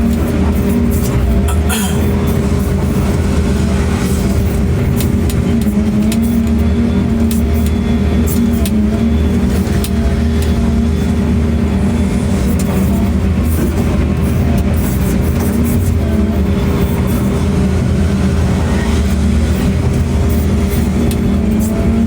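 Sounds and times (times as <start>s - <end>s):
large engine rumbling: 0.0s - 22.0s.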